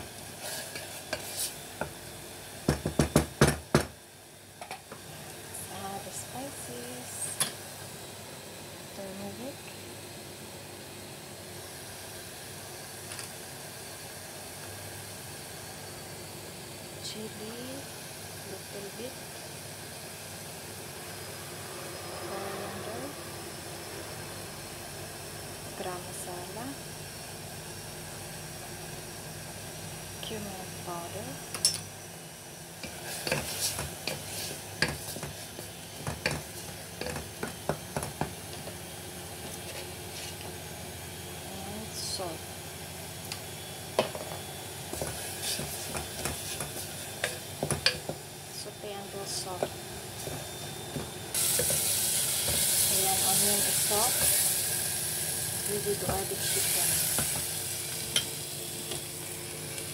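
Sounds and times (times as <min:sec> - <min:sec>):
onions sizzling in oil: 0:00.0 - 0:08.2, 0:11.0 - 0:59.9.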